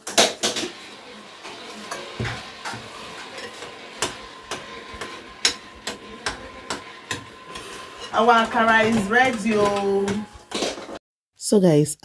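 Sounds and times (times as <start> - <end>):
faint sizzle of frying oil: 0.0 - 11.0.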